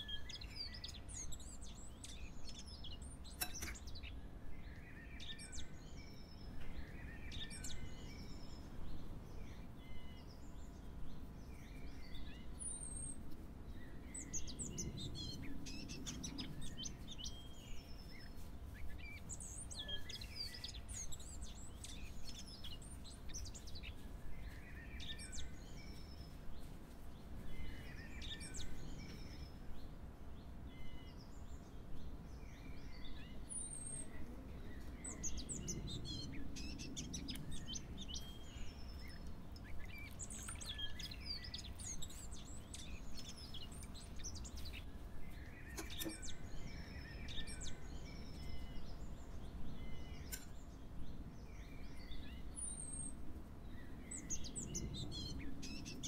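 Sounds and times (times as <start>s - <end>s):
birds chirping and singing: 0.0s - 56.0s
low steady background noise: 0.0s - 56.0s.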